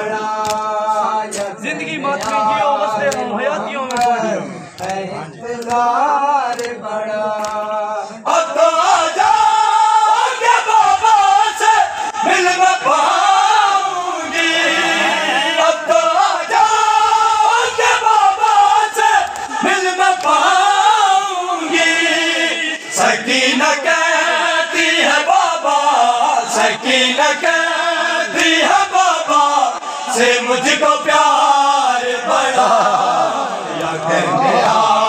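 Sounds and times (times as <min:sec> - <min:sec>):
men chanting in unison: 0:00.0 - 0:35.0.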